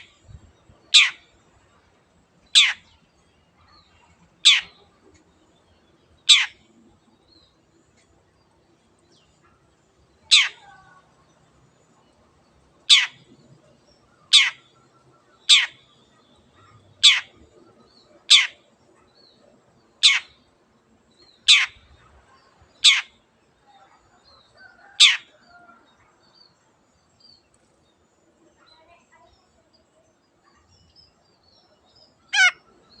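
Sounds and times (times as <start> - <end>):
faint soft bird chirps: 0.0 - 33.0.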